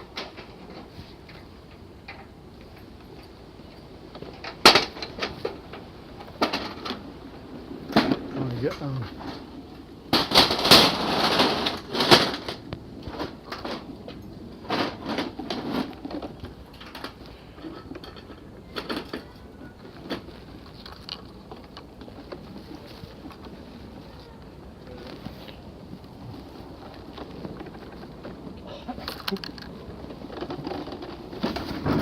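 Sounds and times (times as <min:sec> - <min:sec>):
clattering and knocks: 0:00.0 - 0:32.0.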